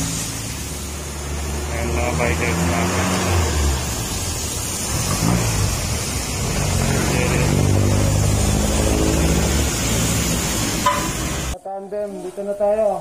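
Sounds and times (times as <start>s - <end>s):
rain: 0.0s - 11.6s
tyres hissing on wet asphalt: 0.0s - 12.8s.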